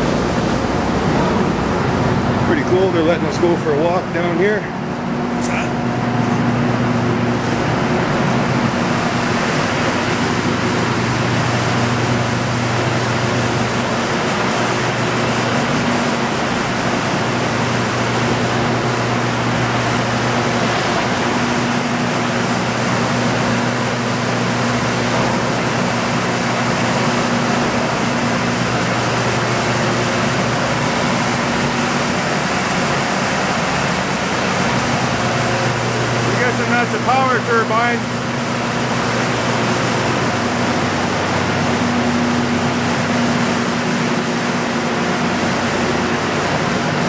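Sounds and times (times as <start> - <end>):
turbine generator low hum: 0.0 - 47.0.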